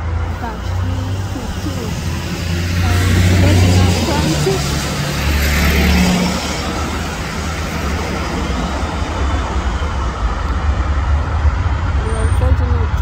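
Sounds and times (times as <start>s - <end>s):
jet engines low rumble: 0.0s - 13.0s.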